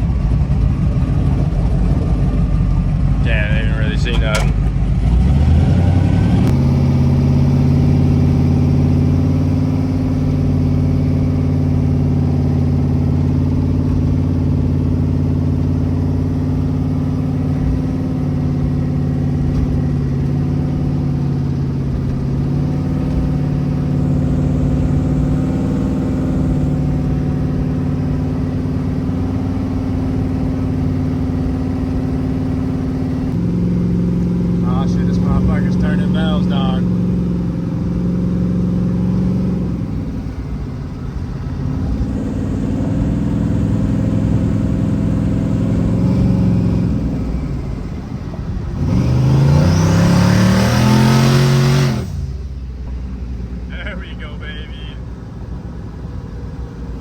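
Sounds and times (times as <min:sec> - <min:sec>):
car engine idling: 0:00.0 - 0:48.9, 0:50.8 - 0:57.0.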